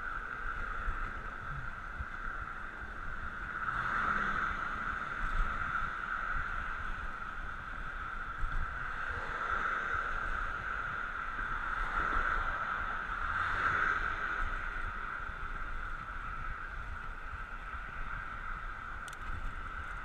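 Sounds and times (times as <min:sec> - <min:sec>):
bicycle tyres rolling: 0:00.0 - 0:20.0
wind on microphone: 0:00.0 - 0:20.0.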